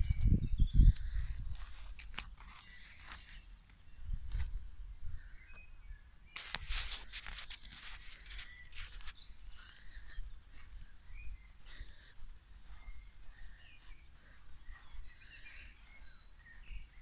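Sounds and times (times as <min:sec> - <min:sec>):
footsteps on grass: 0:01.0 - 0:04.7, 0:06.4 - 0:17.0
bird chirping faintly: 0:02.4 - 0:17.0.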